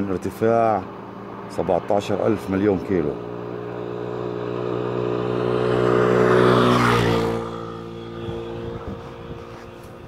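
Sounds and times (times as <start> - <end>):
motor passing by: 0.0 - 10.0.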